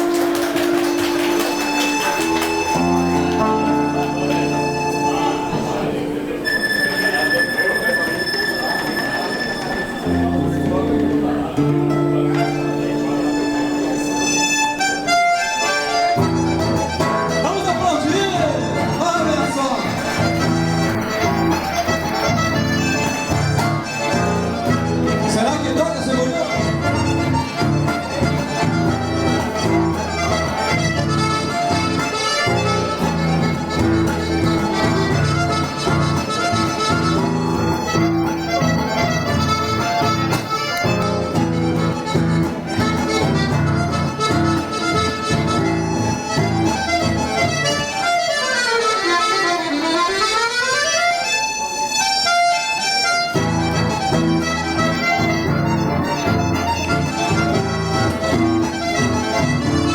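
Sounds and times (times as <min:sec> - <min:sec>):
button accordion playing lively tune: 0:00.0 - 0:59.9.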